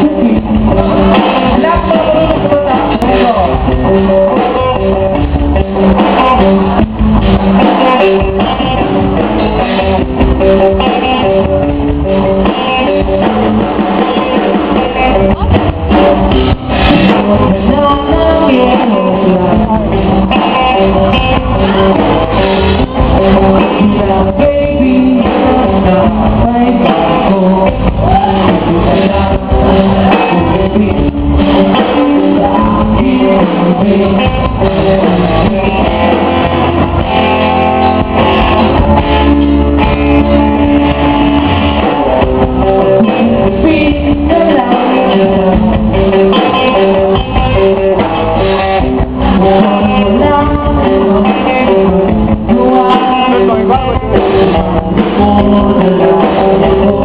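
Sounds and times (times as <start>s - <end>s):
person singing: 0.0s - 6.8s, 13.9s - 37.1s, 38.2s - 57.0s
guitar: 0.0s - 57.0s
live band playing: 0.0s - 57.0s
steady bass line: 0.0s - 57.0s.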